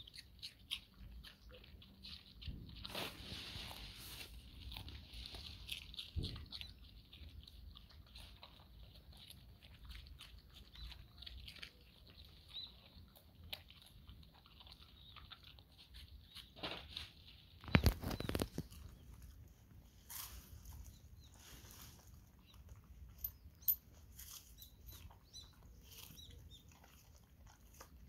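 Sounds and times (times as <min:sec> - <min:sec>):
dog crunching cabbage leaf: 0:00.0 - 0:28.0.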